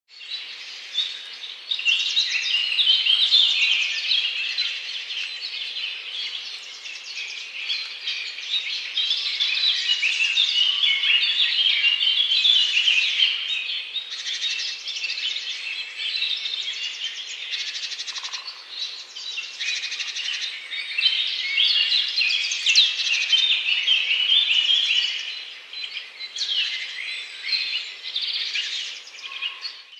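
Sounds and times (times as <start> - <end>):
chorus of birds singing: 0.1 - 29.9.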